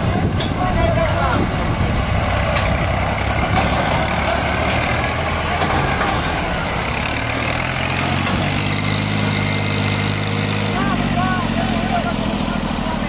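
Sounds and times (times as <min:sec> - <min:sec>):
threshing machine rumble: 0:00.0 - 0:13.0
tractor diesel engine running: 0:00.0 - 0:13.0.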